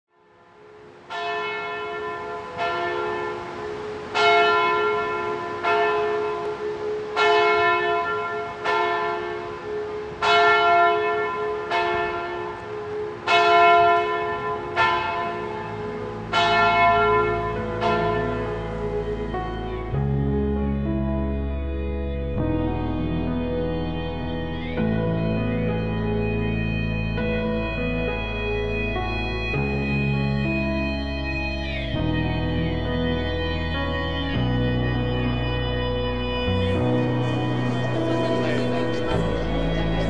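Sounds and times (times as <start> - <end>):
soft music: 0.2 - 40.0
church bell tolling: 0.5 - 40.0.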